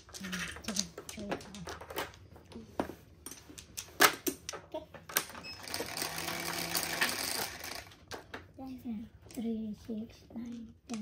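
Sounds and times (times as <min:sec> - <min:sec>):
mahjong tiles clacking: 0:00.0 - 0:08.5, 0:10.4 - 0:11.0.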